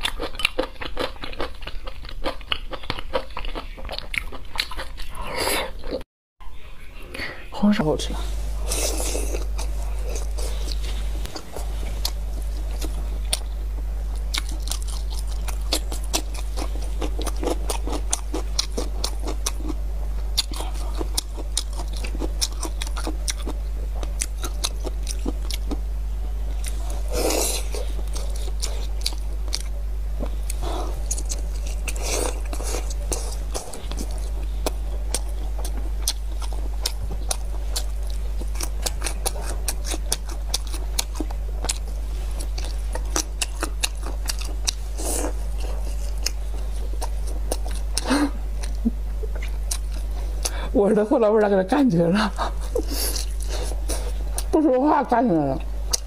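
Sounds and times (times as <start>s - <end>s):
person chewing with wet smacks: 0.0s - 5.2s, 8.7s - 19.8s, 20.4s - 25.8s, 26.6s - 50.6s, 52.4s - 54.6s
steady low hum: 0.0s - 56.0s.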